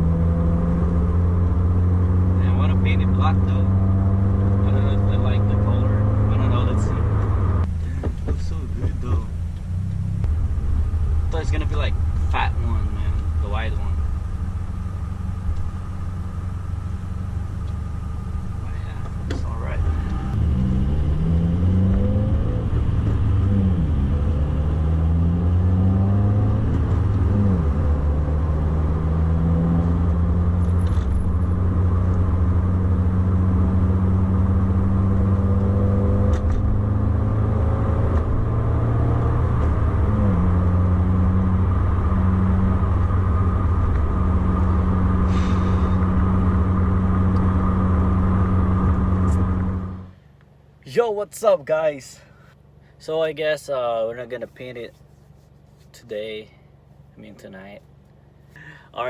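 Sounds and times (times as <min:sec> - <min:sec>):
car engine accelerating through gears: 0:00.0 - 0:50.2
low road rumble: 0:00.0 - 0:59.0.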